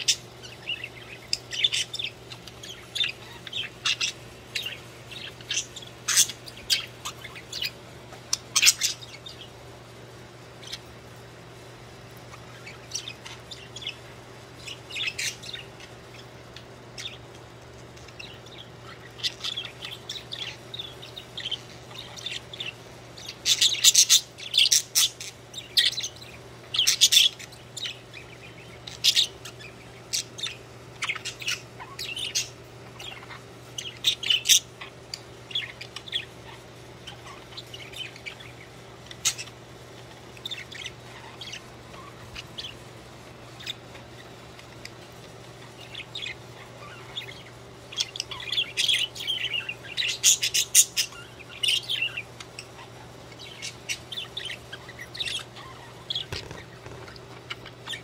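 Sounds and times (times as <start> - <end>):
budgerigars chirping: 0.0 - 9.6, 12.2 - 17.4, 18.0 - 58.0
faint low hum: 0.0 - 58.0.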